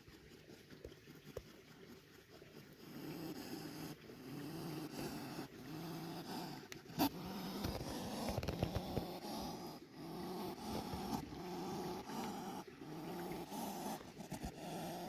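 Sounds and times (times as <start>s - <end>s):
hedgehog snorting and huffing: 0.0s - 15.0s.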